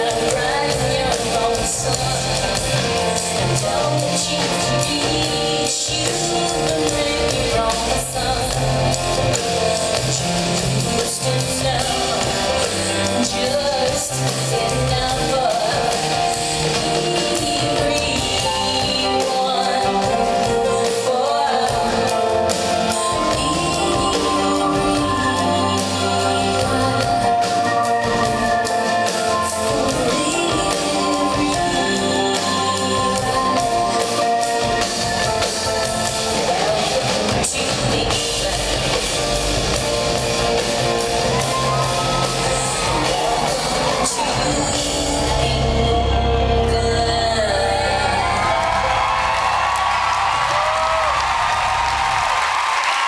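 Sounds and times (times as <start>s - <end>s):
woman singing: 0.0s - 48.8s
band with drums and bass: 0.0s - 53.0s.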